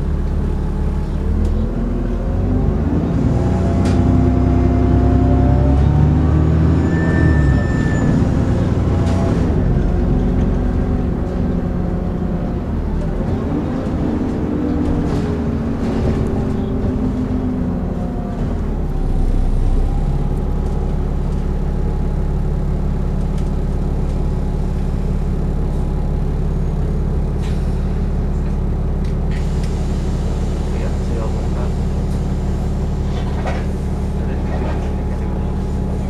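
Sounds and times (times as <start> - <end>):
bus engine whirring whine: 0.0 - 36.0.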